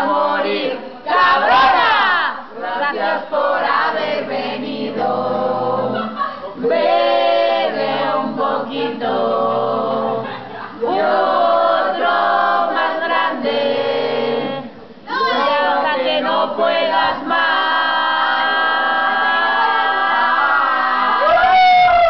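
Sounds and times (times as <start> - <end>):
group singing in chorus: 0.0 - 21.3.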